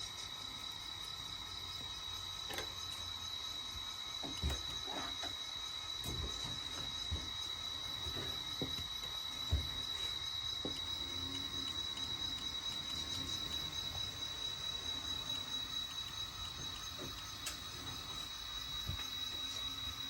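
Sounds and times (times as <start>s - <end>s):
model train whine: 0.0s - 20.0s.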